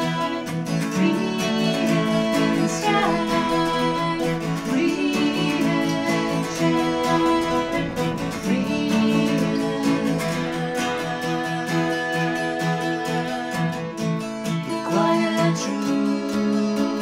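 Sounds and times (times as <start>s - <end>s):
strummed acoustic guitar: 0.0s - 17.0s
woman singing: 0.0s - 17.0s.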